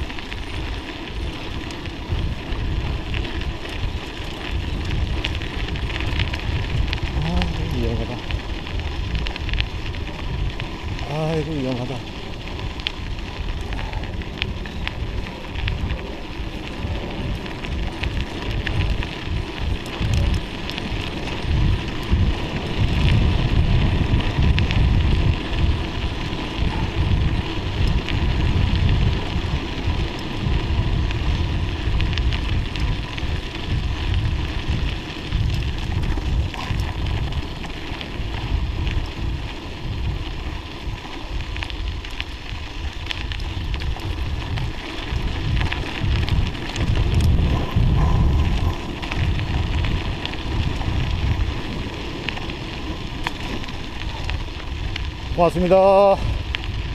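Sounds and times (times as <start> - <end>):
tyres crunching over snow: 0.0 - 56.9
wind rumbling on microphone: 0.0 - 56.9.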